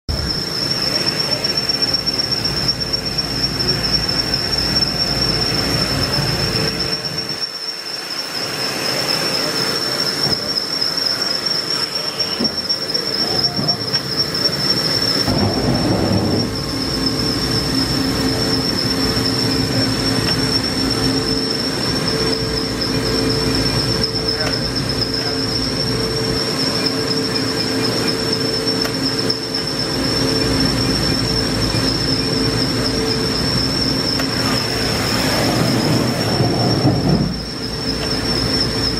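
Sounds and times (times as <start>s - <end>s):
machine air rush: 0.1s - 38.9s
machine high-pitched whine: 0.1s - 38.9s
mechanical hum: 0.1s - 38.9s.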